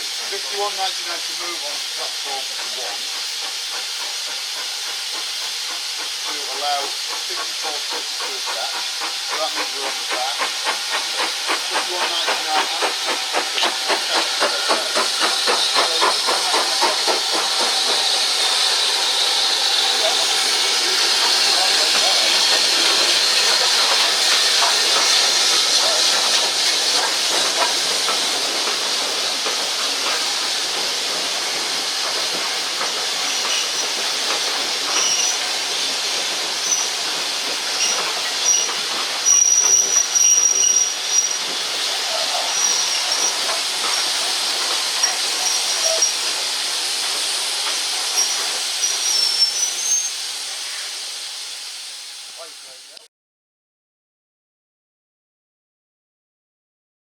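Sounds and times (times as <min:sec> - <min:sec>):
steam locomotive hissing: 0:00.0 - 0:53.1.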